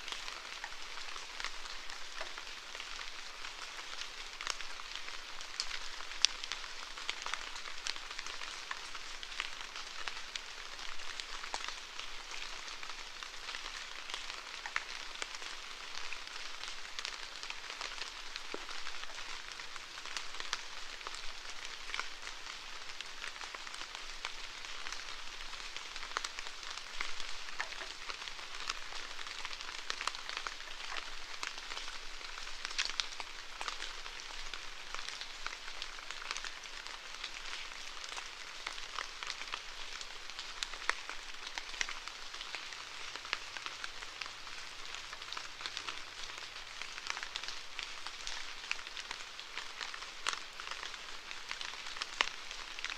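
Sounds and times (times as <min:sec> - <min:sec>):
raindrops ticking on a surface: 0:00.0 - 0:52.9
steady rainfall: 0:00.0 - 0:52.9.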